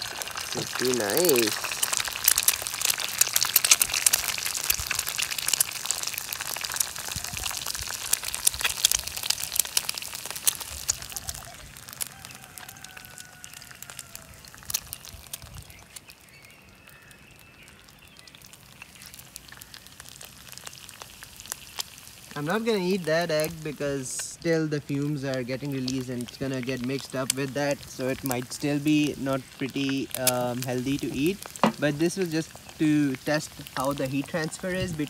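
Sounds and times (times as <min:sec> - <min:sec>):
egg frying in oil: 0:00.0 - 0:35.0.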